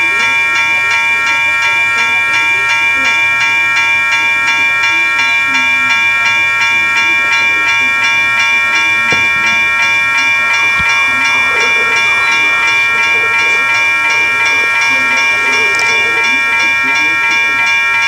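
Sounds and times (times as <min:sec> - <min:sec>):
electronic crossing bell ringing: 0:00.0 - 0:18.0
toy train whirring: 0:00.0 - 0:18.0.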